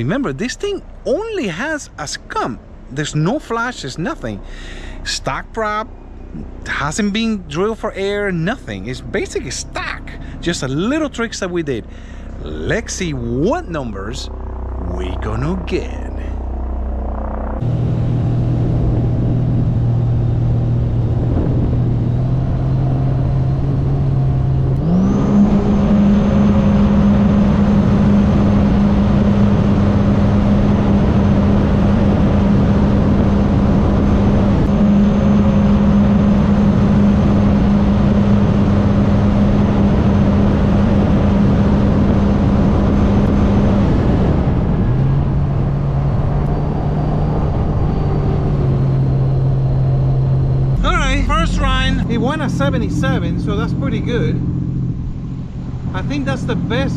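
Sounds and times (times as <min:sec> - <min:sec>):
watercraft engine at full throttle: 0:00.0 - 0:56.9.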